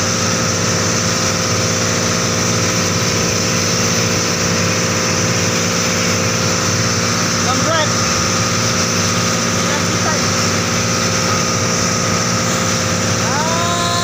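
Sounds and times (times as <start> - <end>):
boat engine running: 0.0 - 14.0
water rushing past hull: 0.0 - 14.0.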